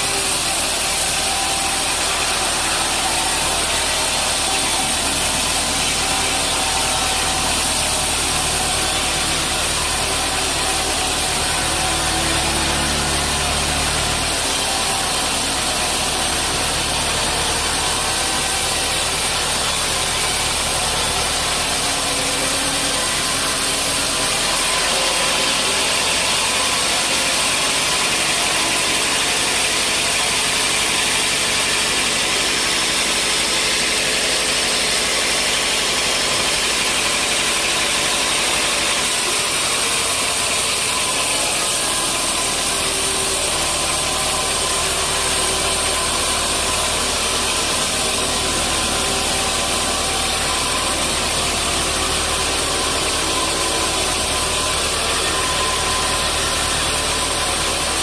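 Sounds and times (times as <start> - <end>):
deep motor hum: 0.0 - 58.0
sawmill machinery running: 0.0 - 58.0.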